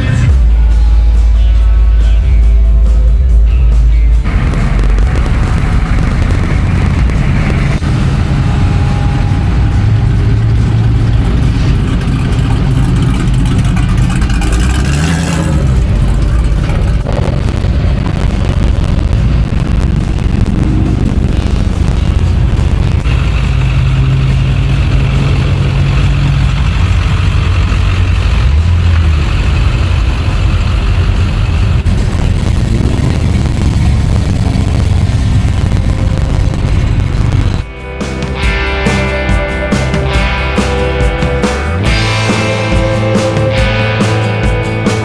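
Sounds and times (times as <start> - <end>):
vehicle engines rumbling: 0.0 - 45.0.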